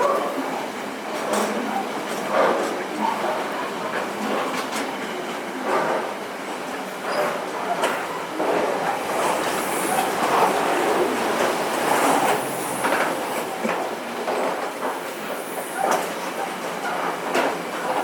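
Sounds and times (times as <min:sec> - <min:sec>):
train running on track: 0:00.3 - 0:18.0.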